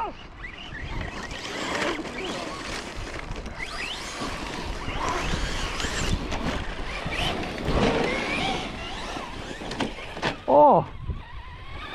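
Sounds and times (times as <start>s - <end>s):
electric motor whine: 0.2s - 11.9s.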